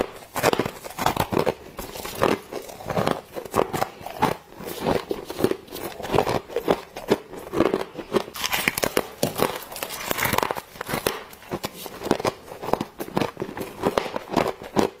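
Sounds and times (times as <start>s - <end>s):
crunching frost being bitten: 0.0s - 15.0s.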